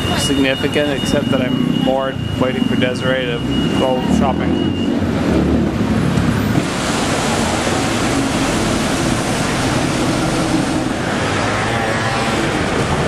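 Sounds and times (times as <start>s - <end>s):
pedestrians: 0.0s - 13.0s
traffic noise: 0.0s - 13.0s.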